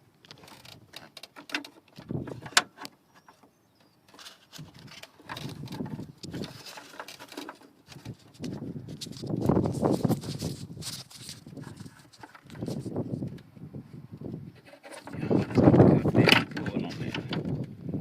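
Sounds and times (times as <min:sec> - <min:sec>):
hands working with wires and tools: 0:00.2 - 0:13.6, 0:14.3 - 0:17.8.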